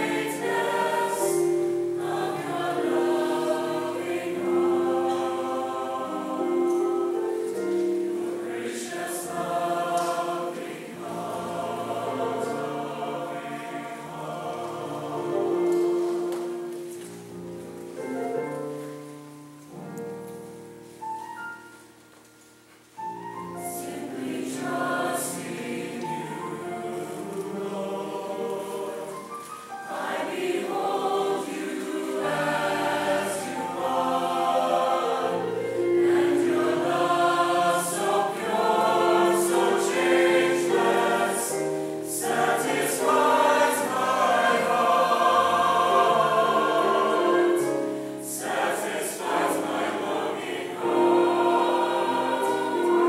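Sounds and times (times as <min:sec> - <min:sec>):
choir of young voices singing: 0:00.0 - 0:18.6, 0:23.5 - 0:53.0.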